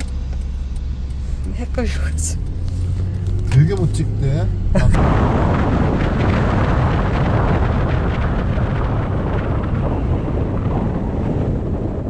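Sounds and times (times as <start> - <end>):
wind buffeting microphone: 1.5 - 12.0
tyre noise on road: 2.3 - 12.0.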